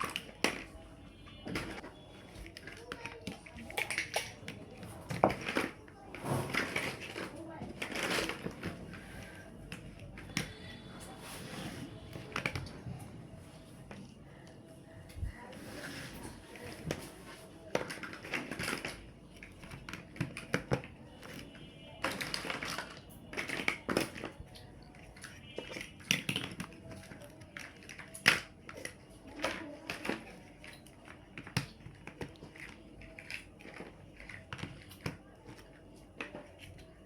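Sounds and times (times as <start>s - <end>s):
plastic blocks rattling: 0.0s - 0.8s, 1.4s - 10.7s, 15.5s - 37.0s
plastic blocks clicking and clacking: 0.0s - 11.1s, 12.0s - 14.2s, 15.2s - 37.0s.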